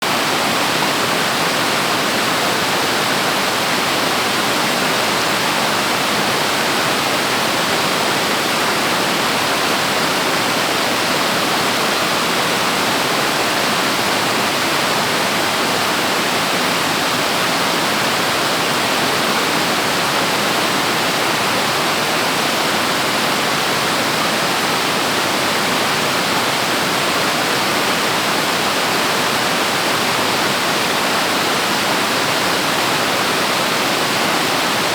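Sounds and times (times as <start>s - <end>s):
waterfall crashing: 0.0s - 34.9s.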